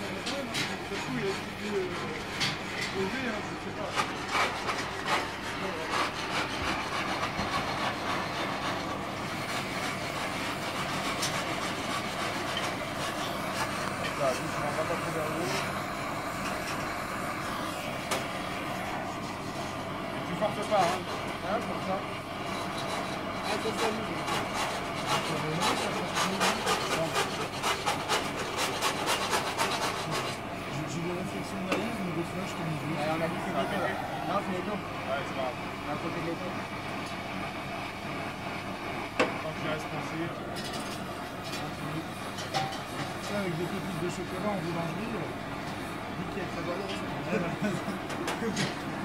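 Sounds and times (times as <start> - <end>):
gas torch flame hissing: 0.0 - 49.0.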